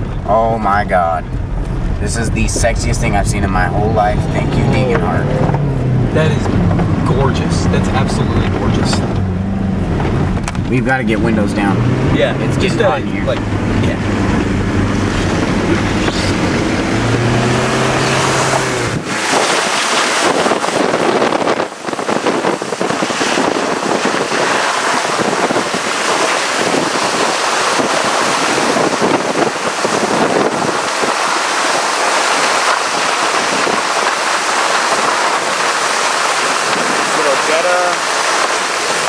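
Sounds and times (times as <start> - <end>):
car engine running: 0.0 - 39.0
wind rushing through open windows: 0.0 - 39.0.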